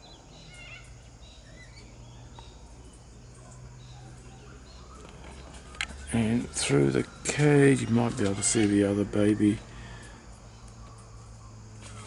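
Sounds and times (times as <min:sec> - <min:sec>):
faint bird chirps and twittering: 0:00.0 - 0:12.0.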